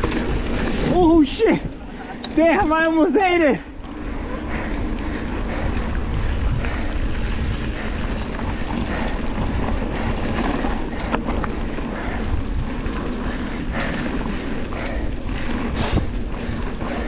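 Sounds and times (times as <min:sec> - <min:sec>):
bike tyres rumbling on dirt: 0:00.0 - 0:17.0
wind buffeting microphone: 0:00.0 - 0:17.0.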